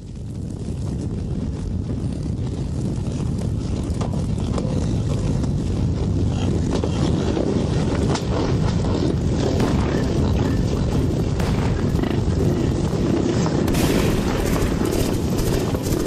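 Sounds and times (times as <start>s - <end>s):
rumble of stampeding hooves: 0.0s - 16.0s.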